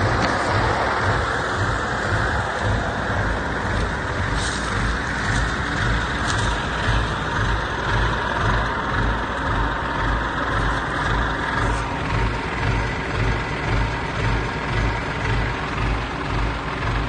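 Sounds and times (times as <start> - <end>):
heavy diesel engine throbbing: 0.0 - 17.0.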